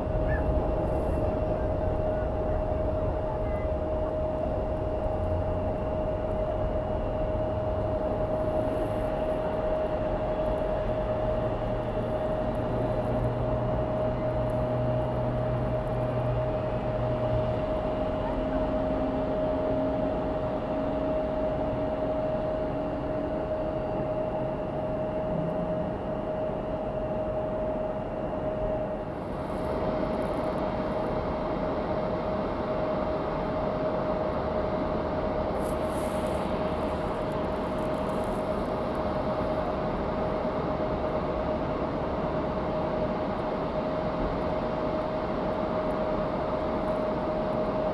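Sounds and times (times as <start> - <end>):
jet engines droning: 0.0 - 47.9.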